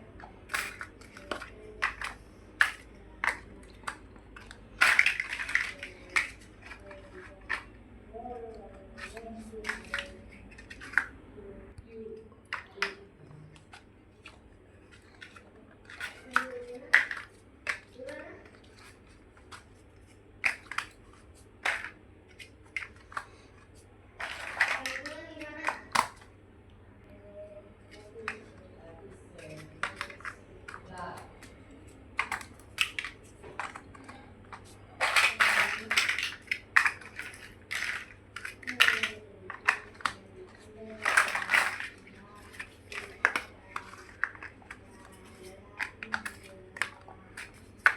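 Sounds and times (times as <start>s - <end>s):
plastic blocks clicking together: 0.0s - 11.2s, 12.4s - 26.3s, 29.3s - 47.9s.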